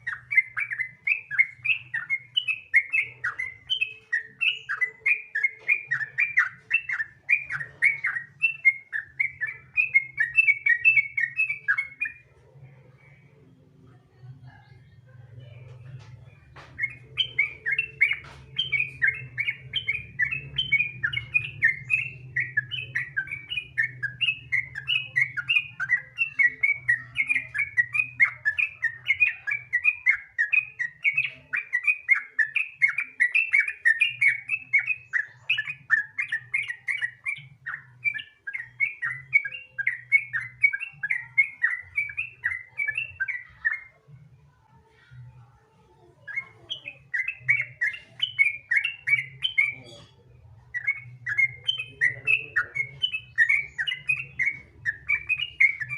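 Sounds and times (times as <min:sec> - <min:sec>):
bird chattering song: 0:00.0 - 0:44.1, 0:45.1 - 0:55.9.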